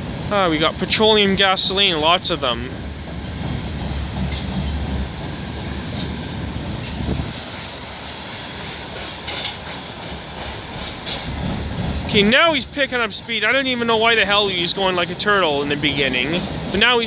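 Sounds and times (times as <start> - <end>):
rail joint clicks: 0.0 - 17.0
train wheels rumbling on rail: 0.0 - 17.0.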